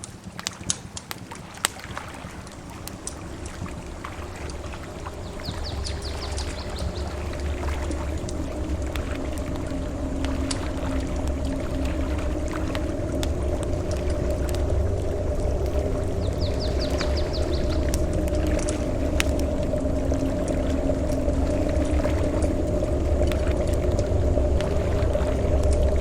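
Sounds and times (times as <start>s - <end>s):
campfire crackling and popping: 0.0s - 26.0s
surf rumbling: 1.2s - 26.0s.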